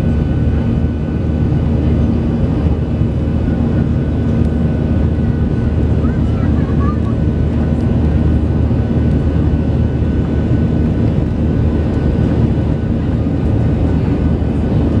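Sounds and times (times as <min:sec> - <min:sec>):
aircraft cabin engine noise: 0:00.0 - 0:15.0.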